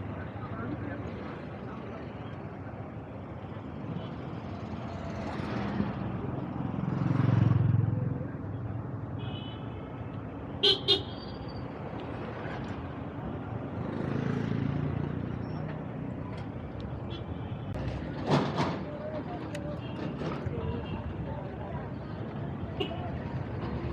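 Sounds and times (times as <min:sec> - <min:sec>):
city street traffic: 0:00.0 - 0:23.9.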